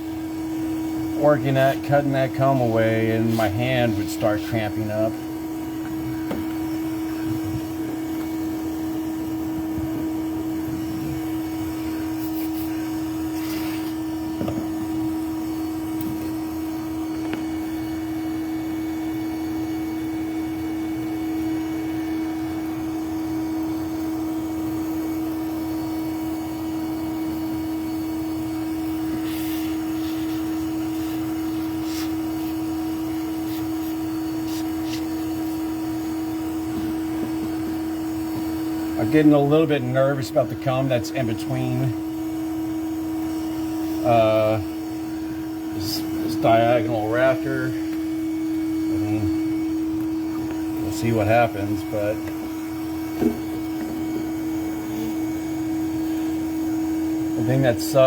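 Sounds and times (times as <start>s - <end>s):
vacuum motor humming: 0.0s - 58.0s.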